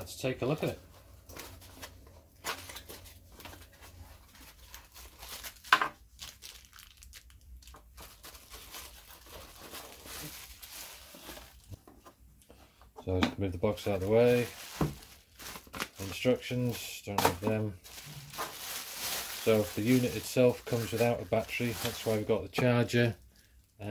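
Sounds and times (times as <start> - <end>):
plastic wrapping crinkling: 0.4 - 11.8, 13.6 - 23.5.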